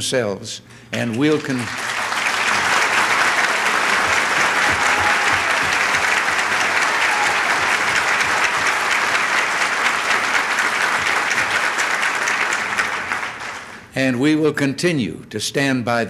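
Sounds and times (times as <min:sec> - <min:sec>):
audience applauding: 0:01.0 - 0:13.9.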